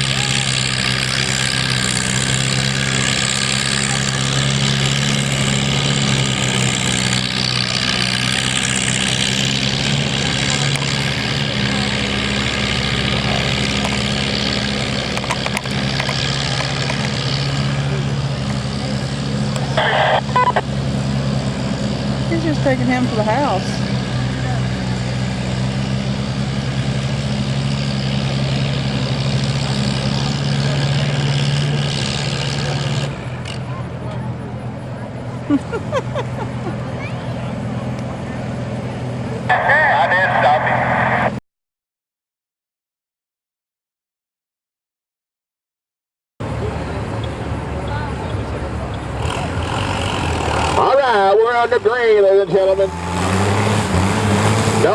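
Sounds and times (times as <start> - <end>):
engine idling: 0.0 - 41.3, 46.4 - 54.9
dense background noise: 0.0 - 41.4, 46.4 - 54.9.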